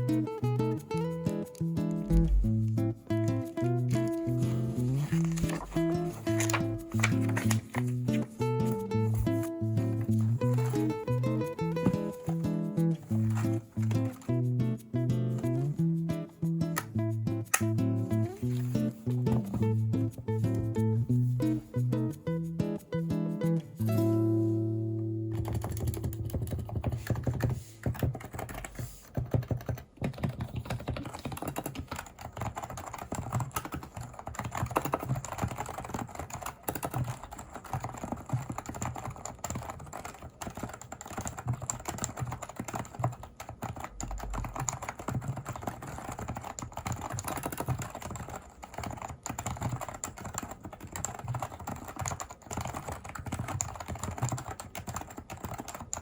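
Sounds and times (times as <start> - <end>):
fast keyboard typing: 0.0 - 23.7, 25.4 - 56.0.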